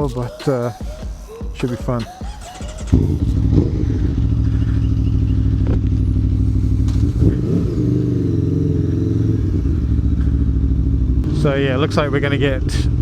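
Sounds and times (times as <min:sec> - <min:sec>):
motorcycle engine running: 0:02.5 - 0:13.0.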